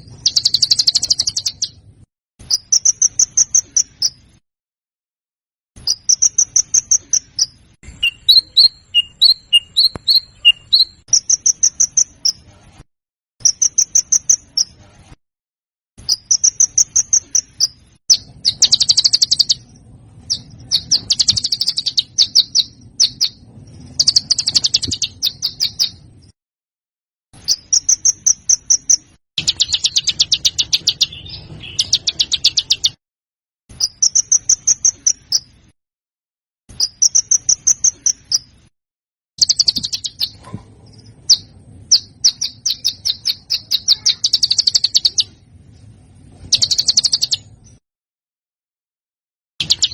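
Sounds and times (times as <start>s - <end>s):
small songbird chirps and trills: 0.0s - 4.4s, 5.8s - 12.8s, 13.4s - 15.0s, 16.0s - 26.4s, 27.4s - 33.0s, 33.7s - 35.8s, 36.7s - 38.7s, 39.4s - 47.8s, 49.6s - 49.9s.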